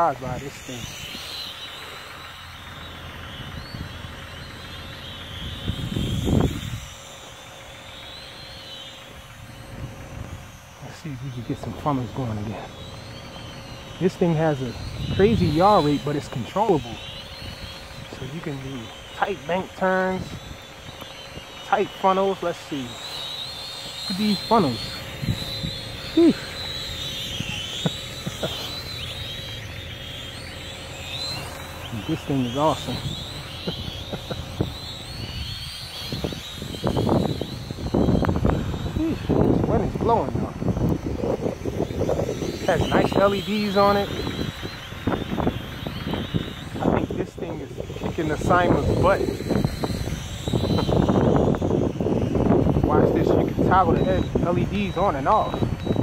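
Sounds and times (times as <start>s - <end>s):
toy quadcopter motors whining: 0.0s - 56.0s
wind buffeting microphone: 0.0s - 56.0s.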